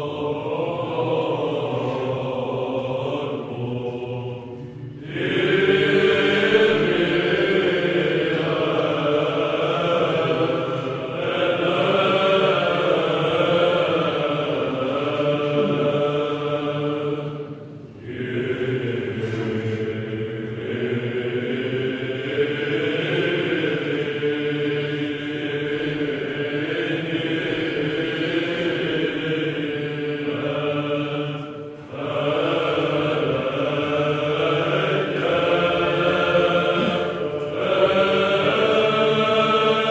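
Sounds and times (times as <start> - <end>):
steady held drone: 0.0 - 39.9
voices chanting slow melody: 0.0 - 39.9.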